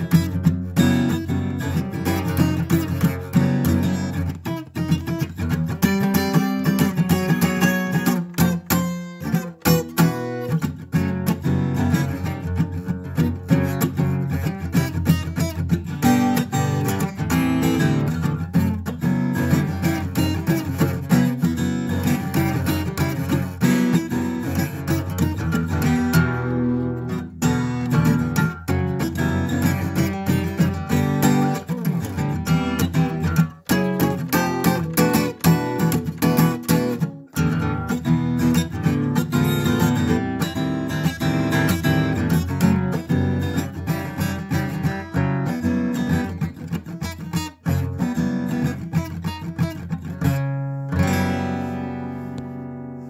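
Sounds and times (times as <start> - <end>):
acoustic guitar music: 0.0 - 53.0.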